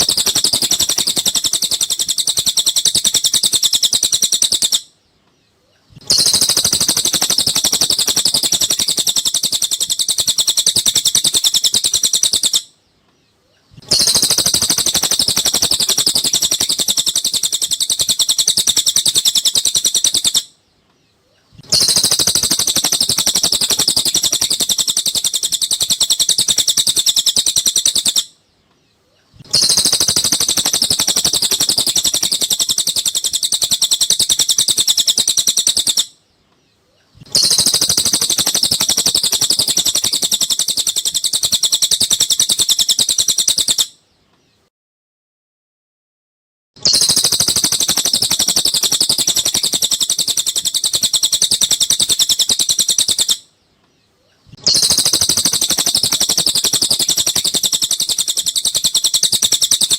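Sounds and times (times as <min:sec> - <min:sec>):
recorded bird song chirping: 0:00.0 - 0:44.7, 0:46.8 - 0:59.9.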